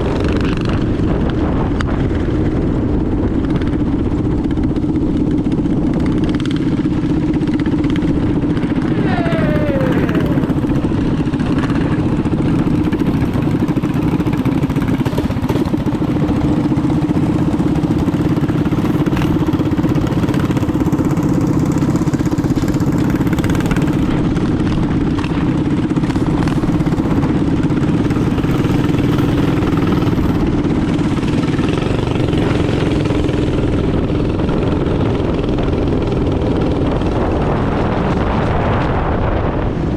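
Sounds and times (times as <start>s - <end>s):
minibike engine running: 0.0s - 39.6s.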